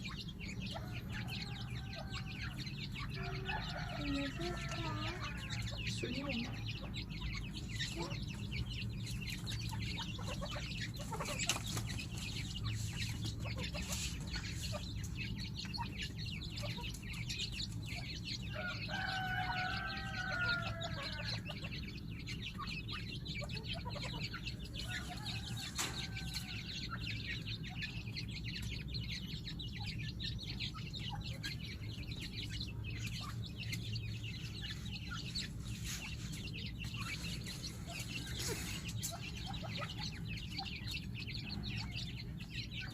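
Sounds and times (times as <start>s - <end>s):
birds clucking softly: 0.0s - 42.9s.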